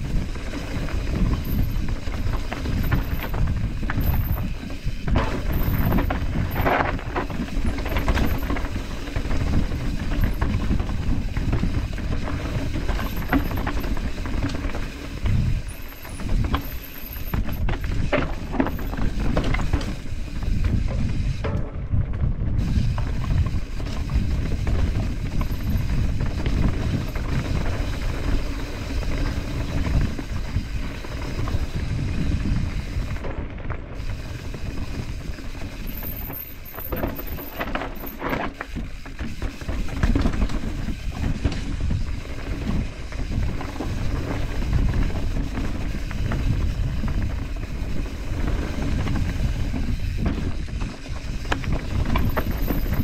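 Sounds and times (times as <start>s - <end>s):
bike rattling: 0.0s - 53.0s
wind rumbling on microphone: 0.0s - 53.0s.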